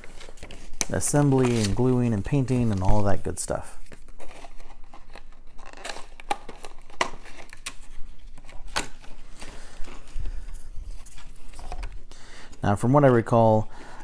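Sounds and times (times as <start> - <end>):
packaging rustling and crinkling: 0.0 - 12.1.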